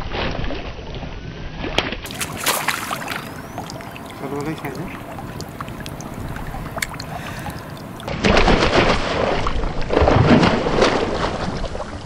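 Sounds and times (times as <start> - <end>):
fish splashing in net: 2.0 - 12.0
water lapping: 2.0 - 12.0.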